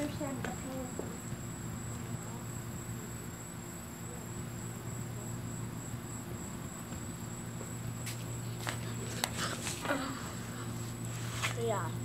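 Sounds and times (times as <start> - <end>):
high-pitched insect trill: 0.0 - 12.0
low even hum: 0.0 - 12.0.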